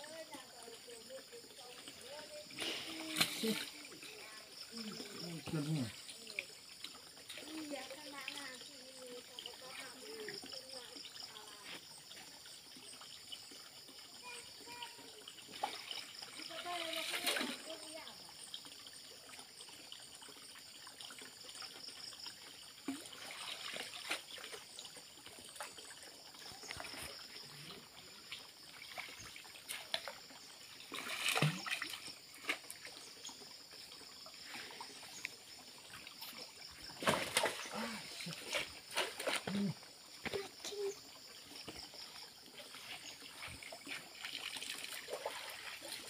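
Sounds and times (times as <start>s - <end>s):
water splashing: 0.0s - 13.5s, 14.2s - 19.5s, 20.2s - 46.0s
water trickling: 0.0s - 46.0s.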